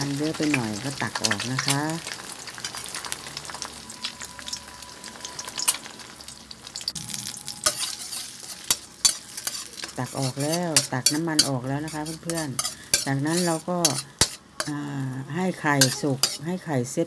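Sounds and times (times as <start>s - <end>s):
eggs sizzling in oil: 0.0s - 17.0s.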